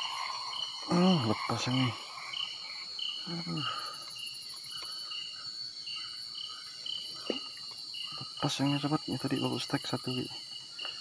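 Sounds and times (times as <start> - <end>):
crickets chirping: 0.0 - 11.0
high-pitched insect drone: 0.0 - 11.0.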